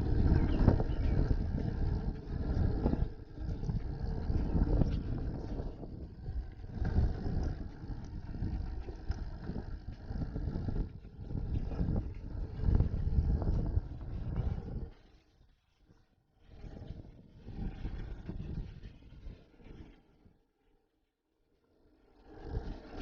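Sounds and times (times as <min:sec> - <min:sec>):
wind on microphone: 0:00.0 - 0:20.3, 0:22.1 - 0:23.0.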